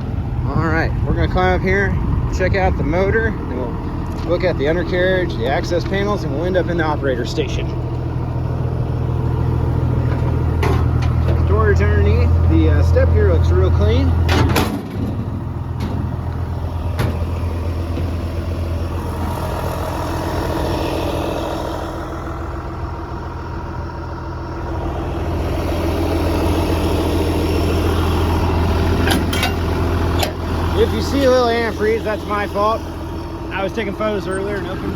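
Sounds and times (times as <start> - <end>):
excavator diesel engine idling: 0.0 - 34.9.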